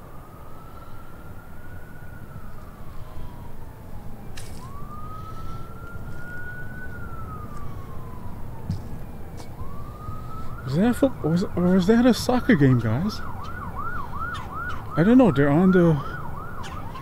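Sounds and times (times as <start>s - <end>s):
emergency siren wailing: 0.0s - 17.0s.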